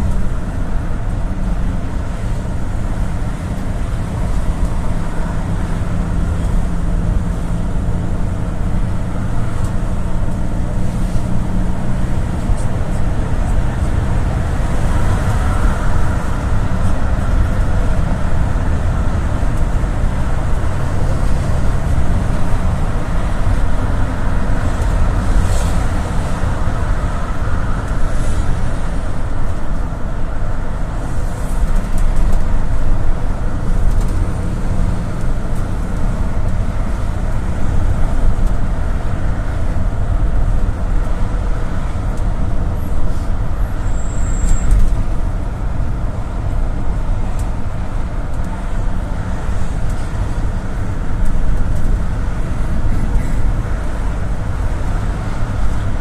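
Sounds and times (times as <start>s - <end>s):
bus engine drone: 0.0s - 56.0s
road and tyre noise: 0.0s - 56.0s.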